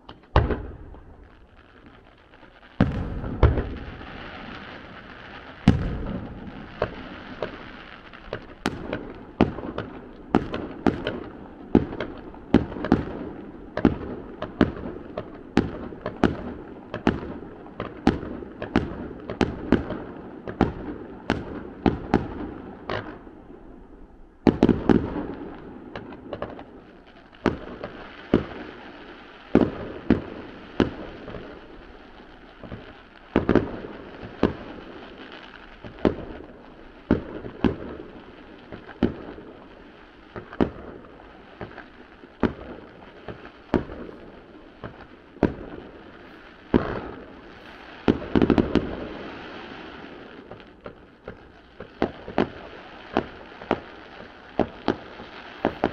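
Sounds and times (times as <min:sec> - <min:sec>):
distant fireworks bangs: 0:00.1 - 0:23.2, 0:27.4 - 0:55.9.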